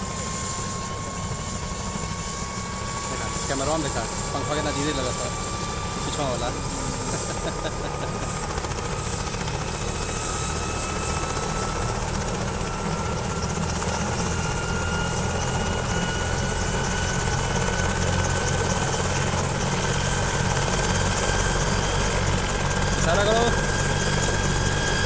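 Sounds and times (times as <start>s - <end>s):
helicopter turbine whine rising: 0.0s - 25.0s.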